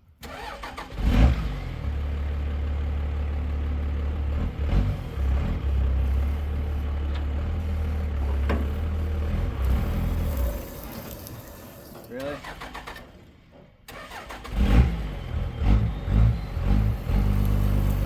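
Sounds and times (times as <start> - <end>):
vehicle engine droning: 0.3 - 18.0.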